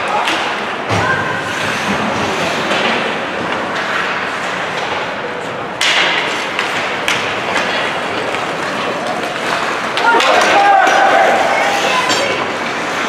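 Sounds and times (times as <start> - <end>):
hockey sticks and puck clacking: 0.0 - 13.0.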